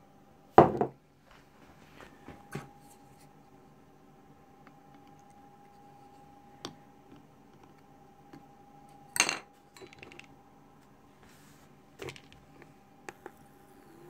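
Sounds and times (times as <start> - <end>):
faint high-pitched hum: 0.0 - 14.0.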